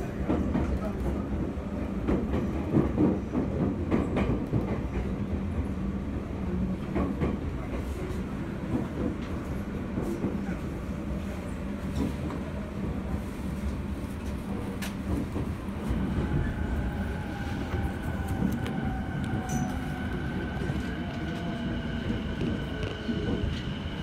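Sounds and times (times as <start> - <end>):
train car rumble and hum: 0.0 - 24.0.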